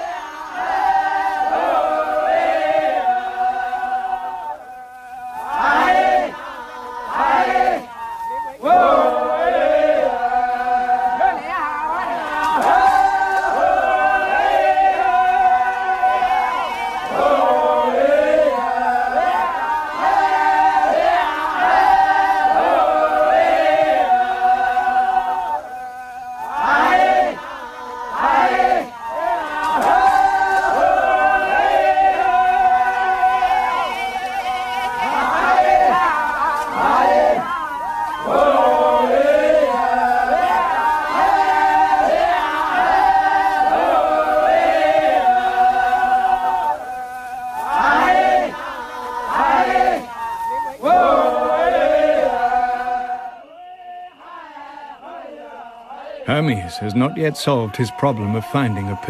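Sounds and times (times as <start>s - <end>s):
crowd shouting: 0.0s - 59.0s
men chanting: 0.0s - 59.0s.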